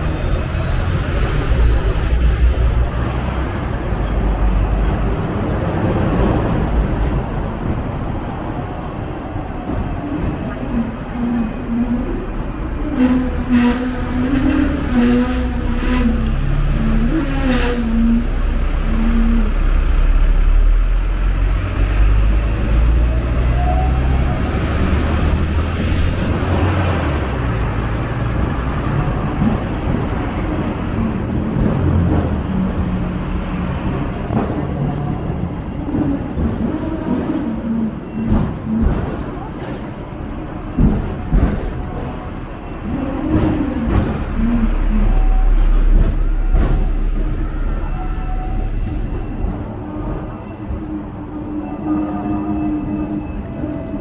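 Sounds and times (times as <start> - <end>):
street traffic: 0.0 - 54.0
tram rumbling on rails: 0.0 - 54.0.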